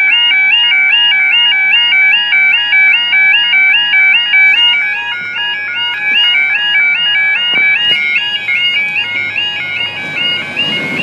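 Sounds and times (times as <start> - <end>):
level crossing alarm two-tone warble: 0.0 - 11.0.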